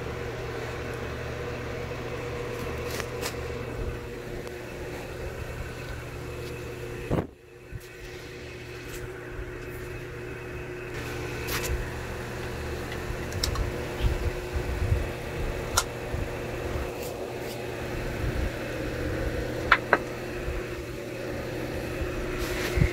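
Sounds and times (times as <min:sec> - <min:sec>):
workshop machine motor humming: 0:00.0 - 0:22.9.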